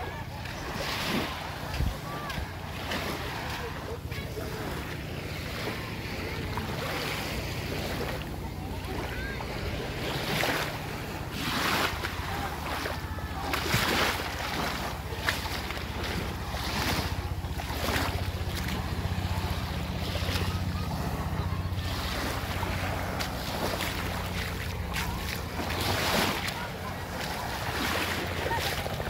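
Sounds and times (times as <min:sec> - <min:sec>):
low engine hum: 0:00.0 - 0:29.0
surf washing in: 0:00.0 - 0:29.0
wind buffeting microphone: 0:00.0 - 0:29.0.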